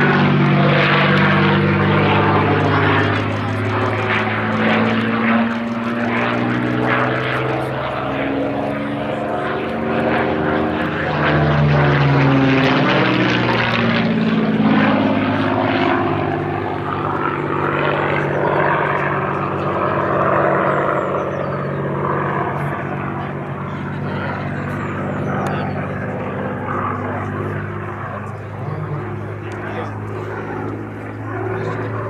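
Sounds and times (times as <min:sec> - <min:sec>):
propeller aircraft engine passing: 0:00.0 - 0:32.0.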